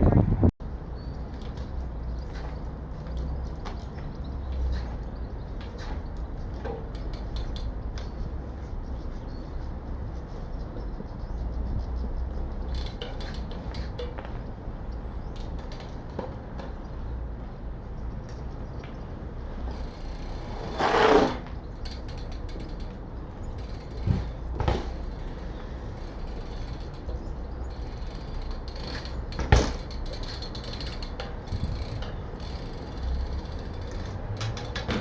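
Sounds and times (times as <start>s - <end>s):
bike mechanical clicks and creaks: 0.1s - 35.0s.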